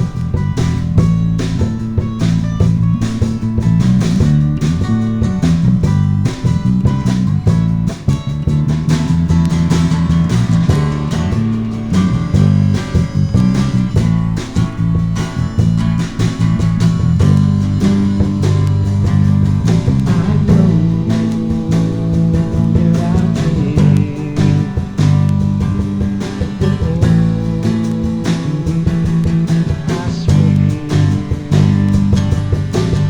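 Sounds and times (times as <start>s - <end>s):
bass guitar: 0.0s - 33.0s
drum kit: 0.0s - 33.0s
strummed guitar: 0.0s - 33.0s.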